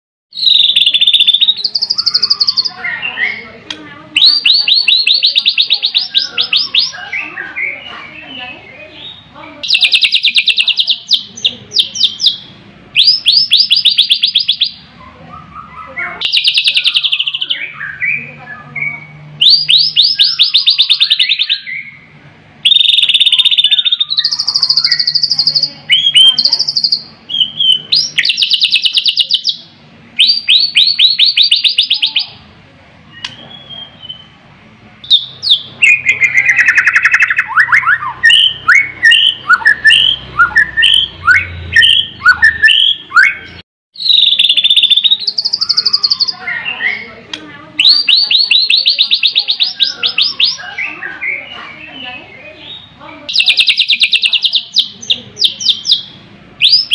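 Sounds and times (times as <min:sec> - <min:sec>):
bird singing: 0:00.3 - 0:32.4, 0:33.1 - 0:34.4, 0:35.0 - 0:56.9.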